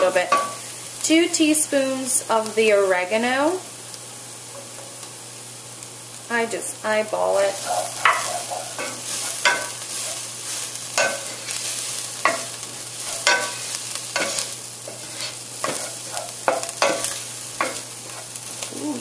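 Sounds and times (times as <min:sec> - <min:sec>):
frying sizzle in oil: 0:00.0 - 0:19.0.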